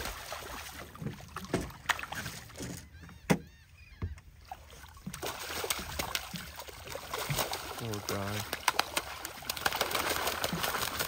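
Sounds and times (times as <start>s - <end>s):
water splashing: 0.0s - 2.7s, 4.4s - 11.0s.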